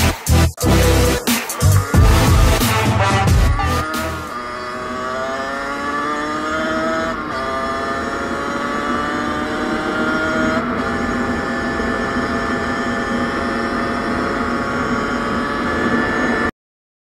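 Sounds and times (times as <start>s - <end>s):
gear change: 0.6s - 16.5s
two-stroke motorcycle engine: 0.6s - 16.5s.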